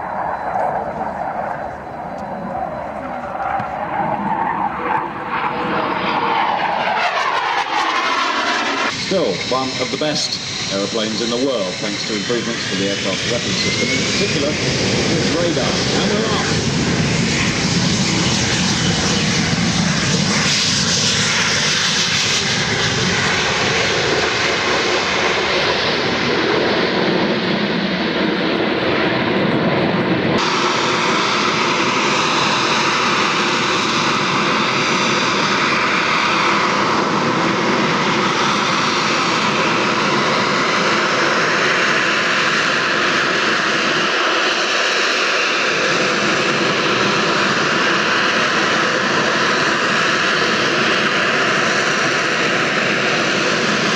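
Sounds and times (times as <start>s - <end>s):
jet engine running: 0.0s - 53.9s.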